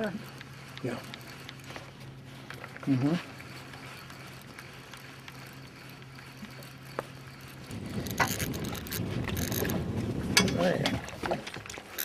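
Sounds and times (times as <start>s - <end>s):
fishing reel gear rattle: 0.0s - 12.0s.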